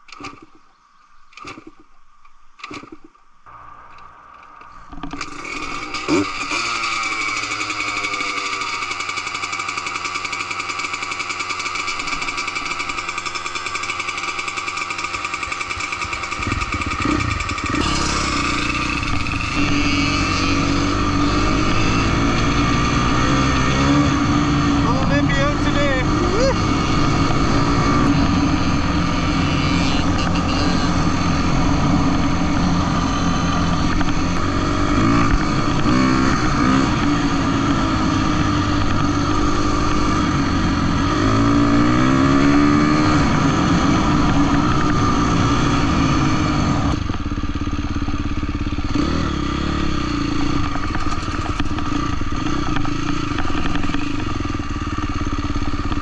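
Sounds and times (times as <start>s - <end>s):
dirt bike engine revving: 2.6s - 56.0s.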